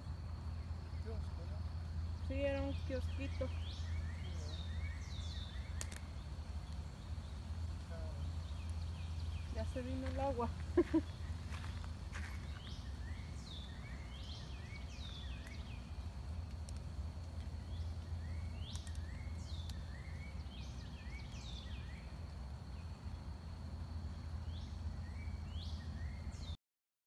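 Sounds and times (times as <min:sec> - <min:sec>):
low background rumble: 0:00.0 - 0:26.6
soft low bird chirp: 0:00.0 - 0:26.6.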